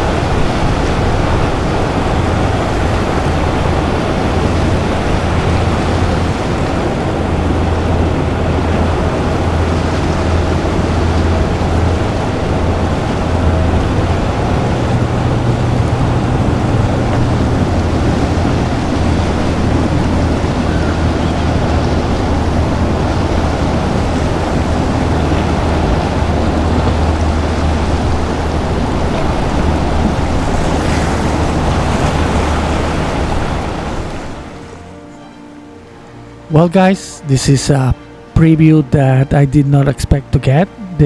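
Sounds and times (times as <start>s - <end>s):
boat engines droning: 0.0s - 41.0s
wind and water rushing: 0.0s - 41.0s.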